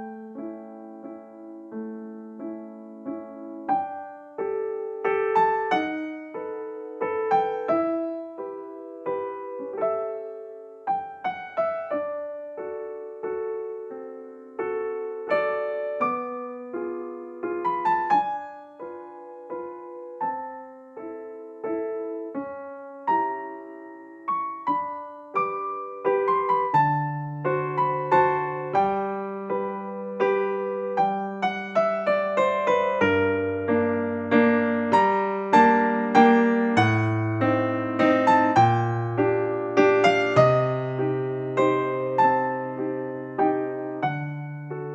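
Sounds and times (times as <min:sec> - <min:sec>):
gentle piano melody: 0:00.0 - 0:44.9.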